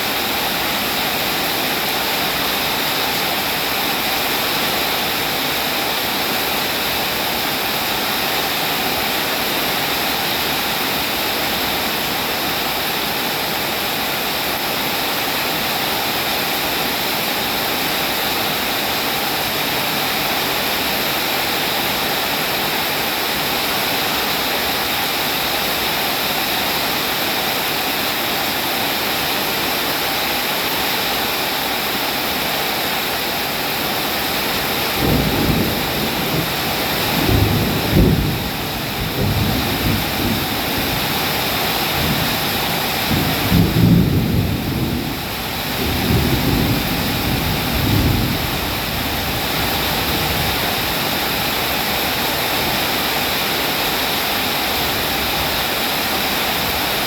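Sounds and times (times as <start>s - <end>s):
heavy rainfall hiss: 0.0s - 57.0s.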